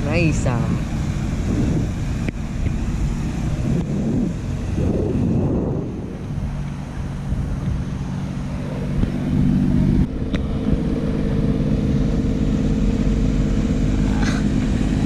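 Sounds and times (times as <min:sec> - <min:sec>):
wind noise on microphone: 0:00.0 - 0:12.9
speedboat engine droning: 0:00.0 - 0:15.0.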